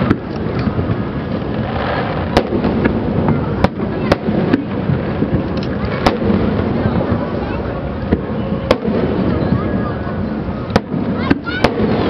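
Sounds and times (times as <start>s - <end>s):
fireworks bursting: 0.0s - 12.0s
sharp firework cracks: 0.0s - 12.0s.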